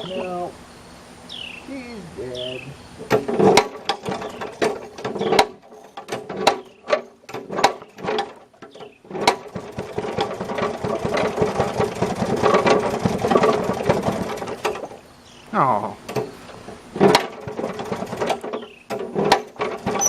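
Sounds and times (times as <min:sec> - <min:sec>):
two-stroke engine running: 0:03.0 - 0:15.1, 0:16.0 - 0:20.0.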